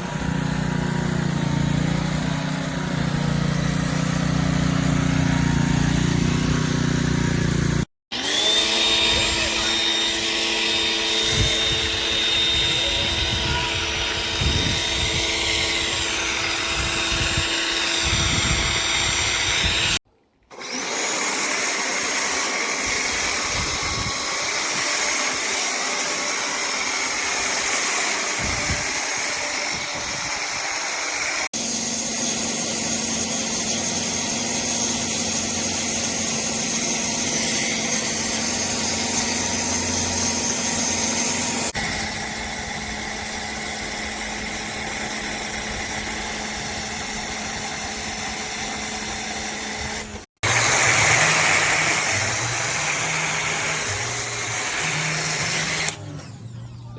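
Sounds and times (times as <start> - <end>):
pressure washer motor humming: 0.0 - 56.4.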